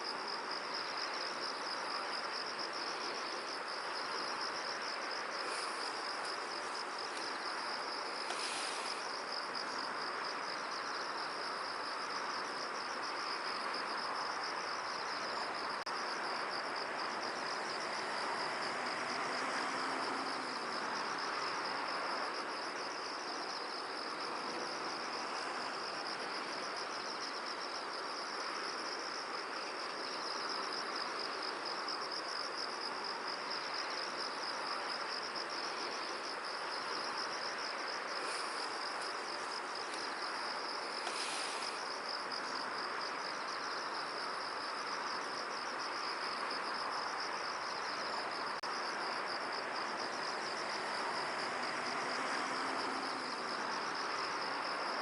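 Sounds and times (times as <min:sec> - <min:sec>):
crickets trilling: 0:00.0 - 0:55.0
field ambience hiss: 0:00.0 - 0:55.0.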